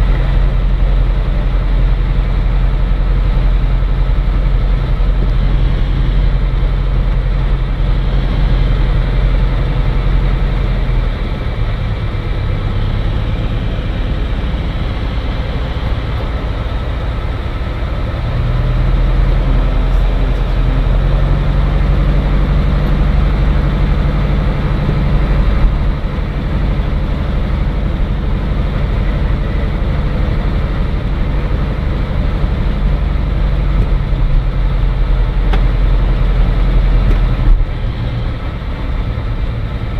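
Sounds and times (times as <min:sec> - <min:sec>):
aircraft piston engine running: 0:00.0 - 0:39.9.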